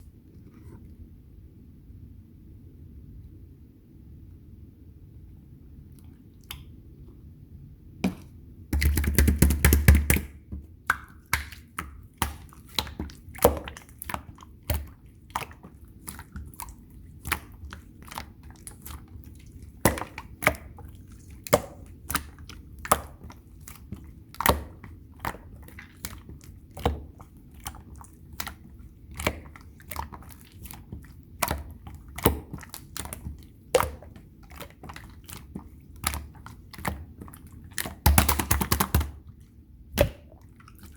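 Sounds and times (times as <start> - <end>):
slime squishing with wet clicks: 5.8 - 7.3, 8.1 - 40.9.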